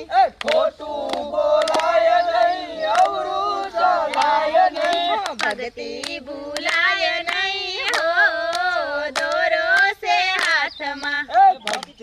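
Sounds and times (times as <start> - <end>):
group singing devotional song: 0.0 - 12.0
hands clapping in time: 0.2 - 12.0.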